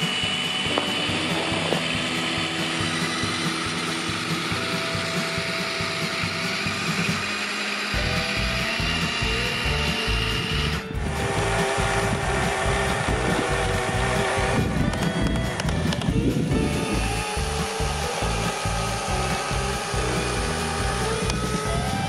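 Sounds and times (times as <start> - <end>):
rough low churning: 0.0 - 22.0
small electric motors whining: 0.0 - 22.0.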